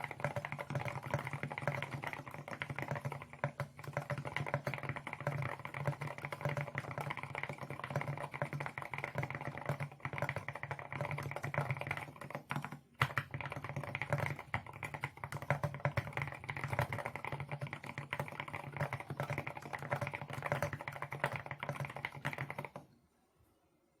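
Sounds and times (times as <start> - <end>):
mechanical keyboard typing: 0.0 - 22.8.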